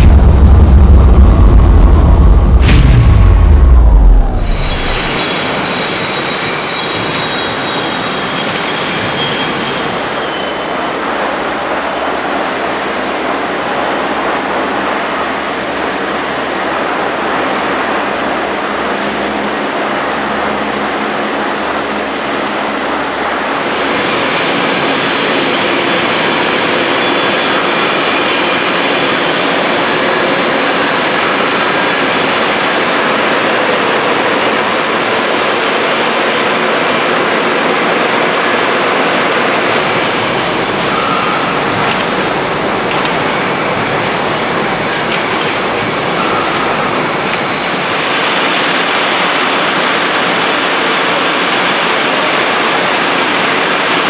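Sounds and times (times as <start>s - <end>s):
faint high whines: 0.0s - 30.9s, 34.4s - 54.0s
steady mechanical noise: 0.0s - 54.0s.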